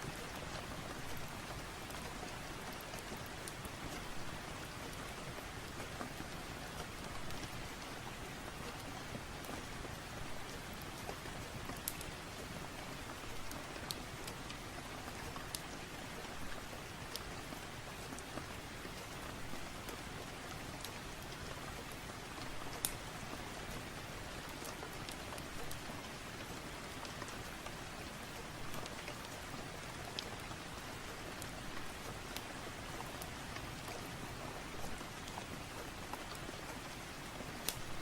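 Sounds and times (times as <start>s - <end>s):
heavy rain: 0.0s - 38.0s
fireplace crackles and pops: 0.1s - 38.0s.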